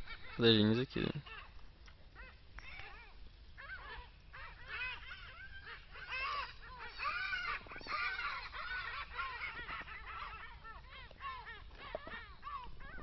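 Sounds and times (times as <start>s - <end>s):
chorus of animal calls: 0.0s - 13.0s.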